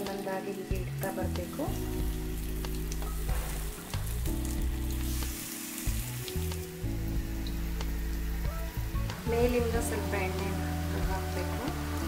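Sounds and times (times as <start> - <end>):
background music with held chords: 0.0 - 12.0
food sizzling in oil: 0.0 - 12.0.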